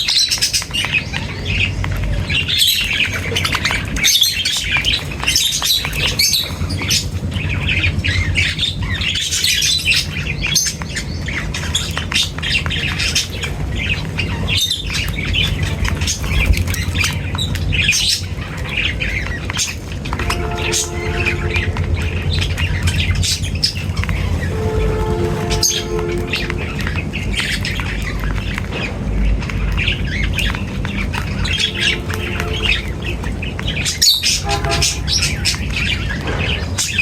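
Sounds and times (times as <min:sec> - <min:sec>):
flock of birds chirping: 0:00.0 - 0:37.0
low background rumble: 0:00.6 - 0:37.0.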